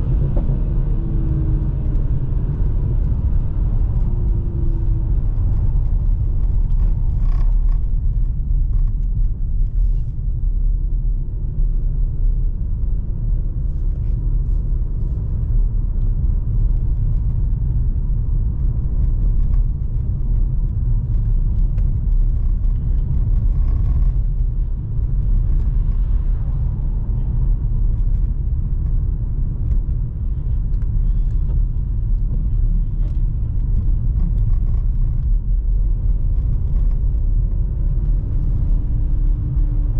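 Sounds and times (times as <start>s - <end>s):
car engine rumbling: 0.0s - 39.9s
road noise: 0.0s - 39.9s.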